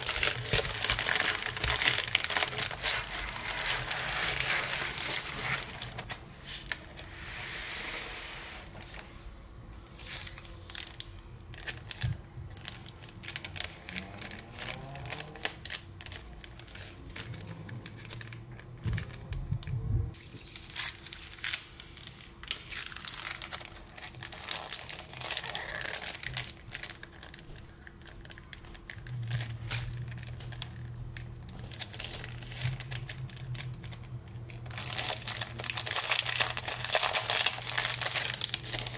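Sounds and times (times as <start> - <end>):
plastic packaging crinkling: 0.0 - 7.1, 9.9 - 19.4, 20.1 - 38.9.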